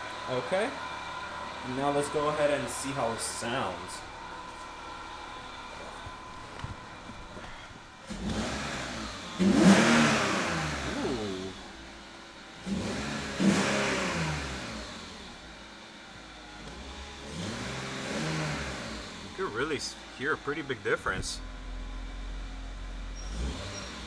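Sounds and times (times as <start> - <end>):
car engine revving: 0.0 - 24.0
engine intake noise: 0.0 - 24.0.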